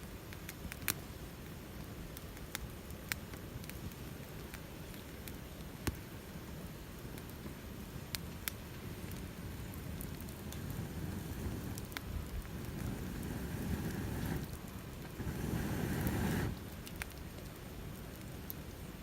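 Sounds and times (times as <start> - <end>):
campfire crackling and popping: 0.0 - 19.0
low rush of flame: 3.3 - 19.0.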